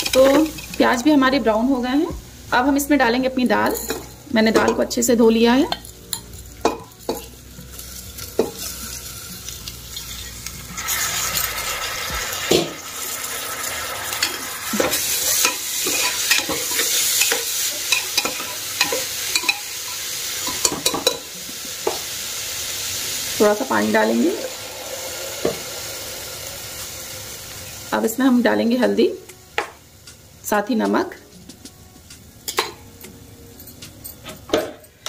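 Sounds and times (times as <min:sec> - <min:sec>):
lentils sizzling in hot oil: 0:00.0 - 0:31.3.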